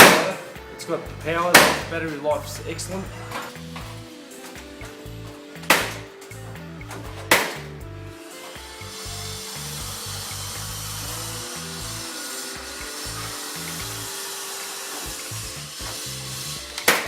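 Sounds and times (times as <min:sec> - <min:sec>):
background music: 0:00.0 - 0:17.0
power tool working wood: 0:00.0 - 0:17.0.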